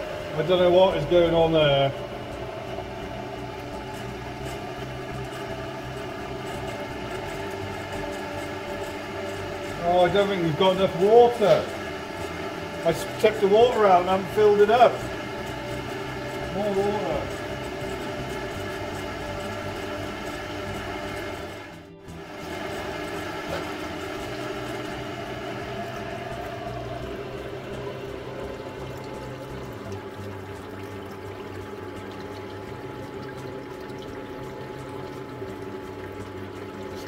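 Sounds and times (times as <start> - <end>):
background music: 0.0 - 37.0
water being poured: 0.1 - 37.0.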